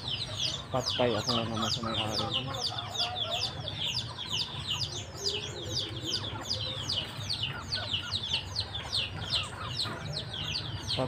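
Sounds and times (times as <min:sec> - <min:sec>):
chicks peeping: 0:00.0 - 0:11.0
hen clucking: 0:00.0 - 0:11.0.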